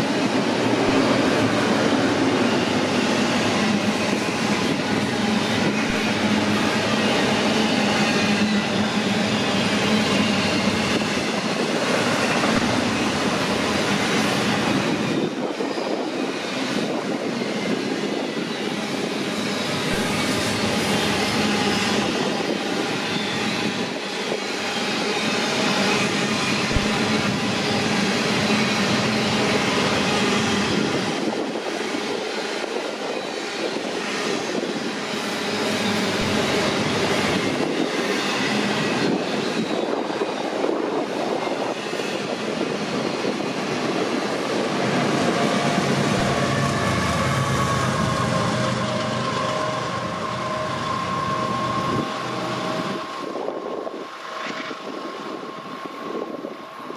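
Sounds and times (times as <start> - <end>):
steel train wheels on rails: 0.0 - 56.9.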